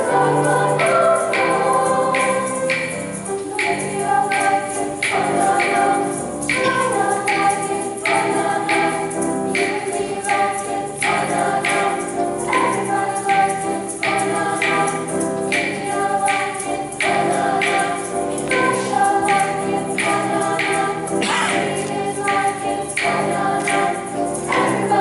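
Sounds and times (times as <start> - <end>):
choir singing chords: 0.0 - 25.0.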